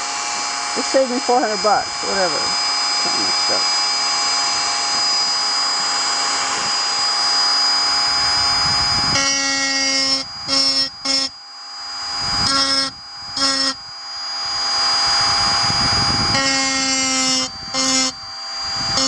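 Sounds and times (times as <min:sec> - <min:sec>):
rotary engraving tool whining: 0:00.0 - 0:19.0.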